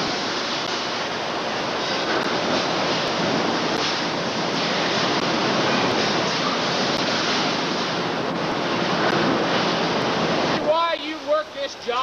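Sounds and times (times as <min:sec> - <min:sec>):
heavy factory machinery roar: 0:00.0 - 0:12.0.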